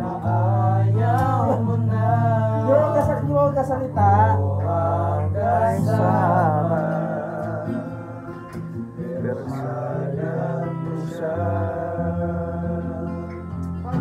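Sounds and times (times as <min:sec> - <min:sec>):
guitar accompaniment: 0:00.0 - 0:14.0
person singing a sad ballad: 0:00.0 - 0:14.0.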